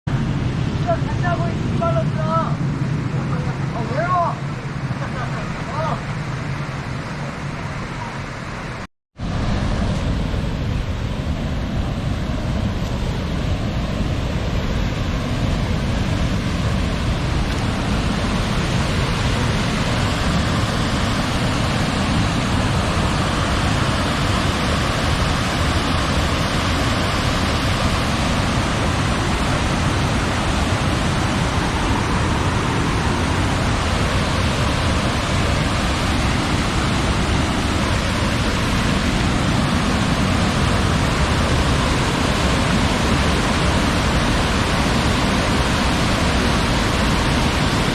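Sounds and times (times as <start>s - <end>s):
stream rushing over rocks: 3.8s - 47.9s.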